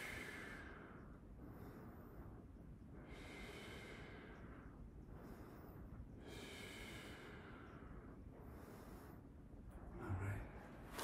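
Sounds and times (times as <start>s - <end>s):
man breathing slowly: 0.0s - 11.0s.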